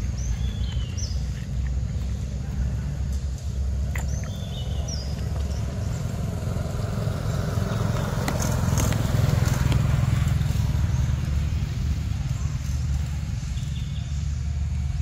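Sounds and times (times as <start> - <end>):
motor vehicle engine rumble: 0.0 - 15.0.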